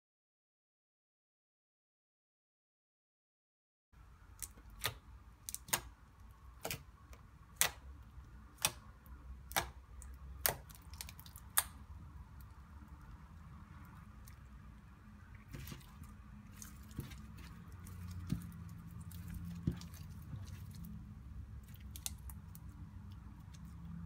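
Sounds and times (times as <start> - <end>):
slime squishing: 4.0 - 24.0.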